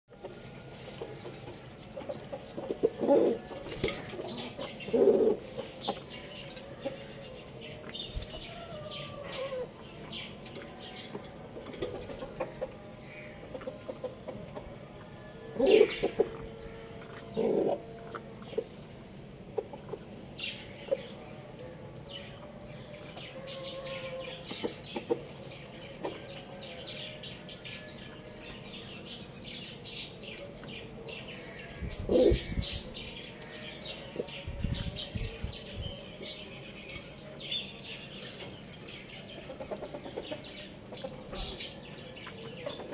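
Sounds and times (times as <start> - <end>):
chickens clucking: 0.1 - 42.9.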